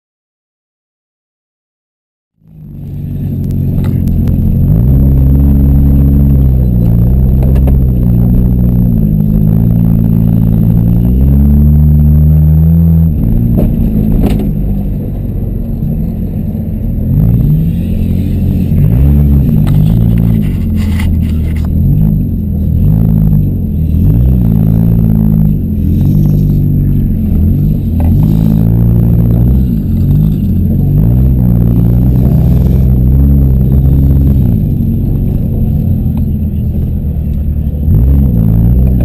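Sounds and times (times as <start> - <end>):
car engine revving: 2.4 - 39.0.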